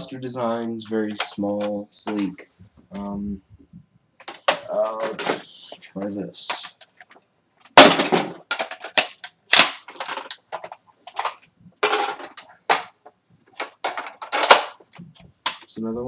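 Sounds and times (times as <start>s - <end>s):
plastic toy parts clattering: 1.0s - 2.4s, 4.2s - 15.7s.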